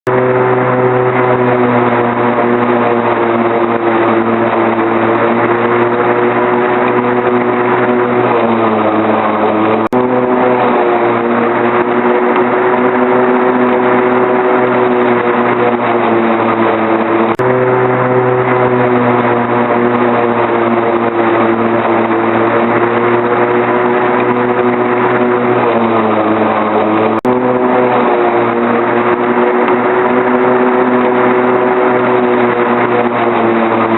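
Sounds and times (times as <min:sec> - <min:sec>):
lawnmower engine running: 0:00.0 - 0:33.9.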